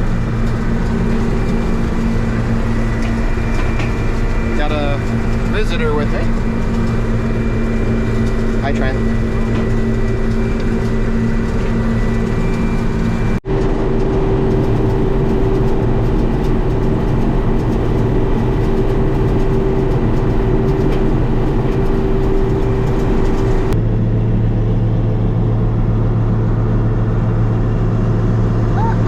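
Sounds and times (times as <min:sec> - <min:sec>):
combine engine and machinery drone: 0:00.0 - 0:29.0
constant whine: 0:00.0 - 0:29.0.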